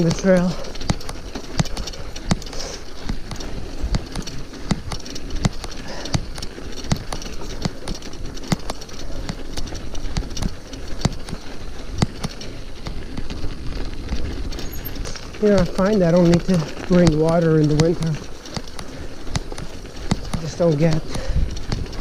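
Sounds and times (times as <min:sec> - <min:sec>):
bike clicks: 0:00.0 - 0:22.0
bike tyre rolling on trail: 0:00.0 - 0:22.0.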